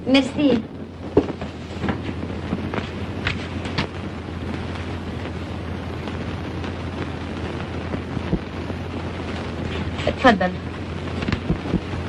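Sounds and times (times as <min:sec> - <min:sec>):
film soundtrack hiss and hum: 0:00.0 - 0:12.0.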